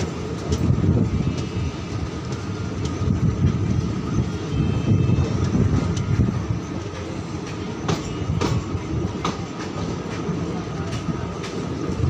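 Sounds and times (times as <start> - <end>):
train coaches rumbling: 0.0 - 12.0
wheels clicking on rails: 0.0 - 12.0.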